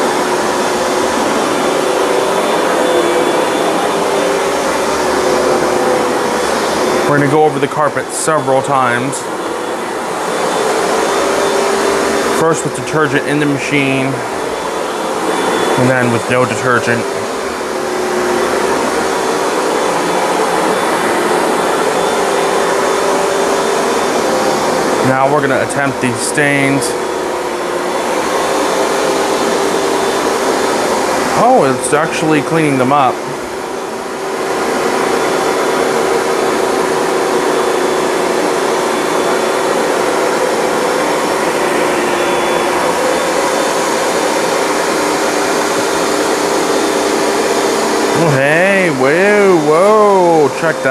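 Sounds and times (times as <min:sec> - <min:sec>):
carpet cleaner suction: 0:00.0 - 0:50.9
motor hum: 0:00.0 - 0:50.9.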